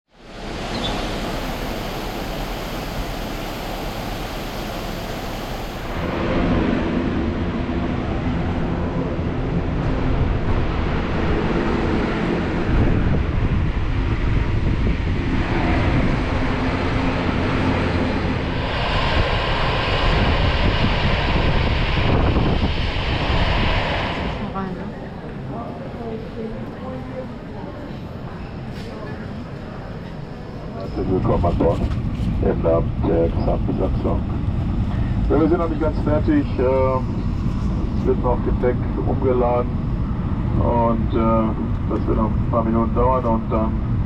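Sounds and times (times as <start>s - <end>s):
airliner roar: 0.1s - 44.0s.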